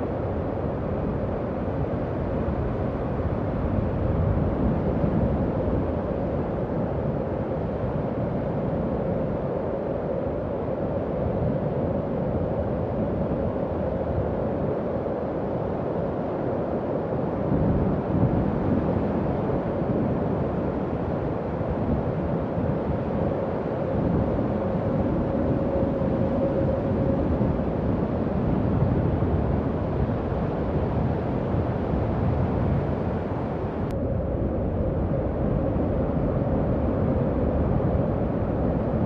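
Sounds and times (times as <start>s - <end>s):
howling wind: 0.0s - 39.0s.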